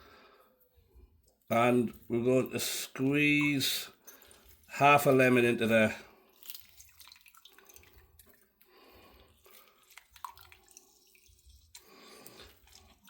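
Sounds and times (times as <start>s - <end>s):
juice dripping into a jug: 0.9s - 13.0s.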